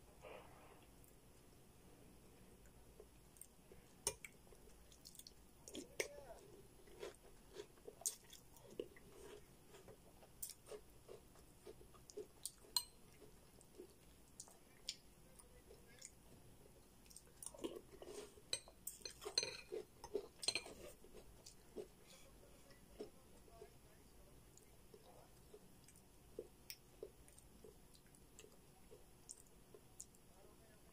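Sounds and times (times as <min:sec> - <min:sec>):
chewing cereal: 0:02.6 - 0:23.8, 0:24.4 - 0:30.3.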